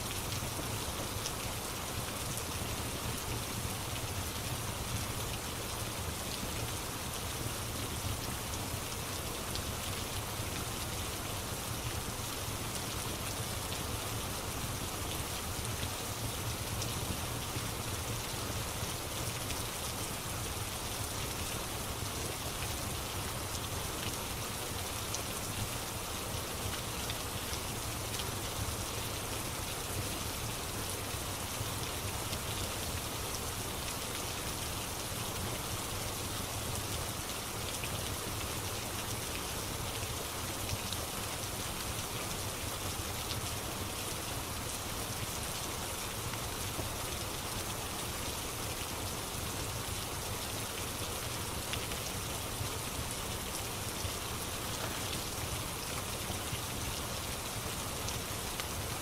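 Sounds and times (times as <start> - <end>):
faint ticks of raindrops: 0.0 - 59.0.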